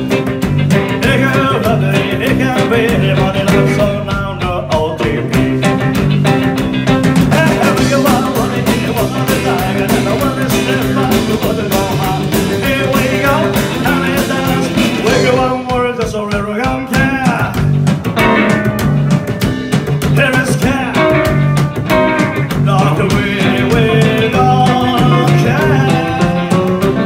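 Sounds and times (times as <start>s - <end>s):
man singing: 0.0s - 6.4s, 7.2s - 18.6s, 20.0s - 27.0s
live rock and roll band: 0.0s - 27.0s.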